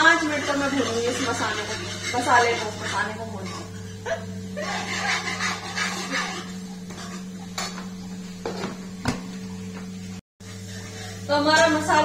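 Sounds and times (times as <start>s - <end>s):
metal spoon scraping a pan: 0.0s - 8.7s, 10.5s - 11.8s
electrical hum: 0.0s - 12.0s.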